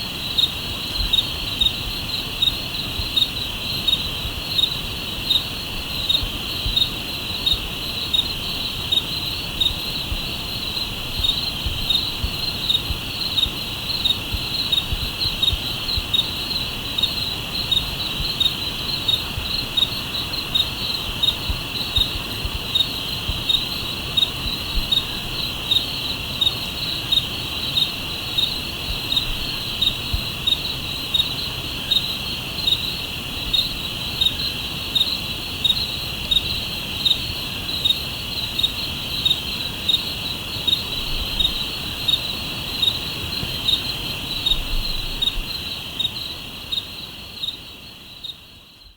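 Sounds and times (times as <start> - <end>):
cricket chirps: 0.0 - 48.9
crickets trilling: 0.0 - 48.9.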